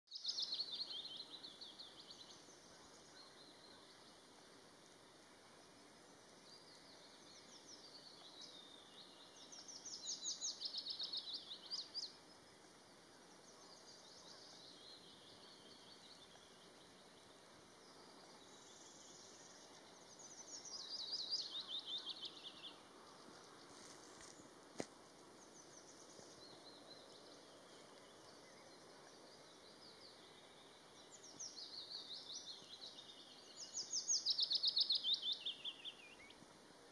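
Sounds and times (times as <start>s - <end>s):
warbler singing: 0.1s - 24.6s, 25.4s - 36.9s.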